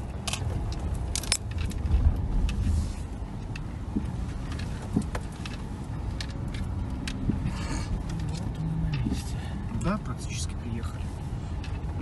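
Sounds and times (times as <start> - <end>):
car engine and tyres rumbling: 0.0 - 12.0
car knocking and rattling: 0.0 - 12.0.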